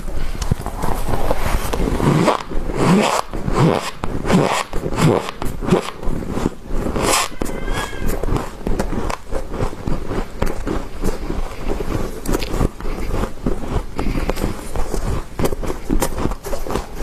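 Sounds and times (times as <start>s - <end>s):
frost crunching: 0.0s - 17.0s.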